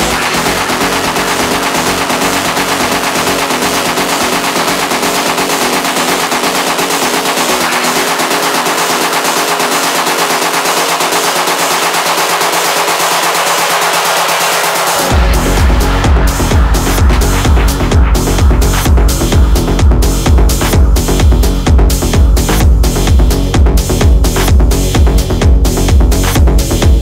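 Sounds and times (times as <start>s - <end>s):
rapid stuttering noise hits: 0.0s - 27.0s
techno music: 0.0s - 27.0s.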